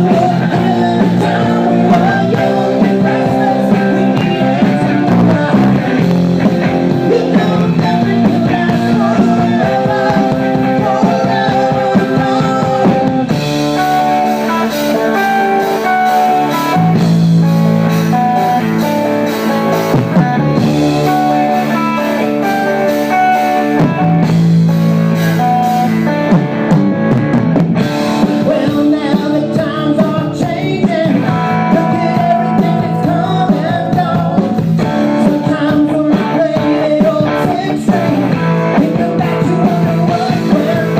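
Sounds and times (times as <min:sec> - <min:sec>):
electric guitar: 0:00.0 - 0:40.9
live rock band playing: 0:00.0 - 0:40.9.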